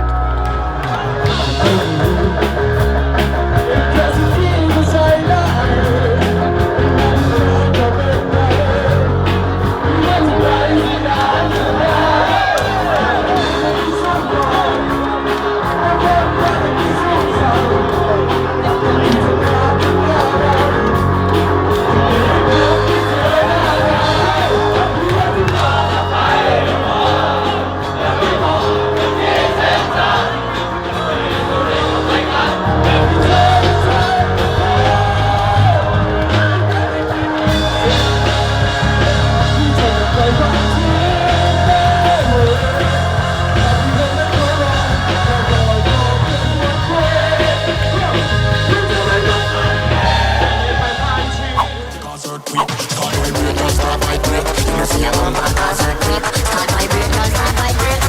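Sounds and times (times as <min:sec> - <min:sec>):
band music: 0:00.0 - 0:58.0
person singing: 0:00.0 - 0:58.0
crowd shouts: 0:04.8 - 0:52.1.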